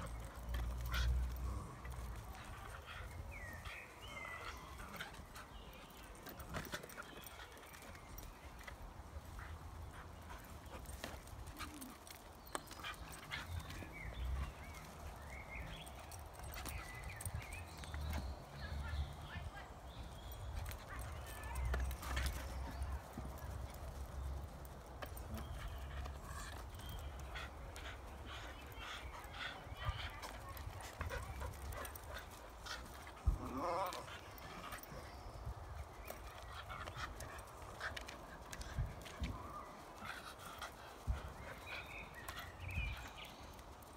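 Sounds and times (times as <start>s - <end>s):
dog paws clicking and thudding: 0.0s - 18.5s, 20.0s - 43.9s.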